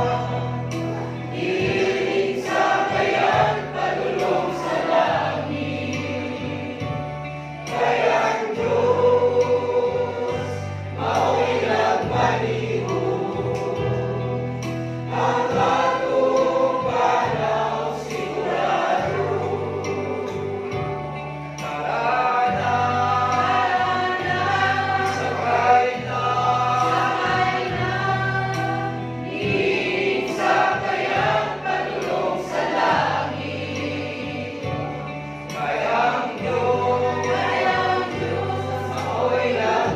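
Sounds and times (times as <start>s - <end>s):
choir singing gospel: 0.0s - 39.9s
instrumental backing with bass: 0.0s - 39.9s.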